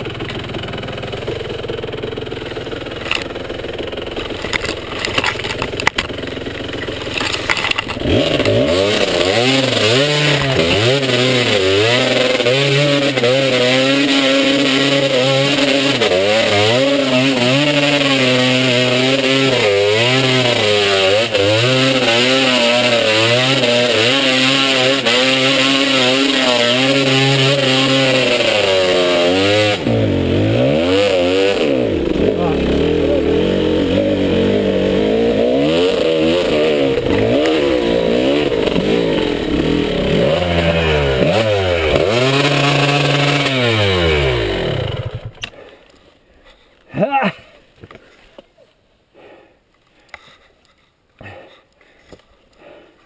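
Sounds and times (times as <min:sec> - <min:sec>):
dirt bike engine revving: 0:00.0 - 0:45.5.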